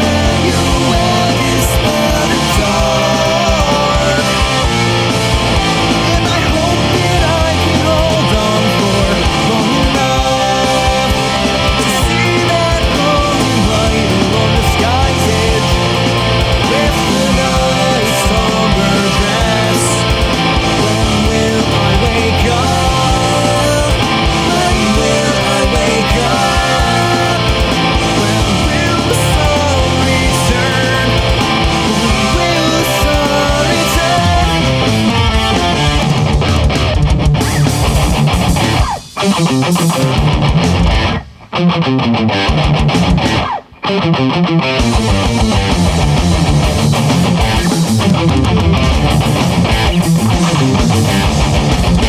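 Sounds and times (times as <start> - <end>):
bass and drums: 0.0 - 41.6, 42.2 - 43.7, 44.7 - 52.0
death metal music: 0.0 - 52.0
distorted guitars: 0.0 - 52.0.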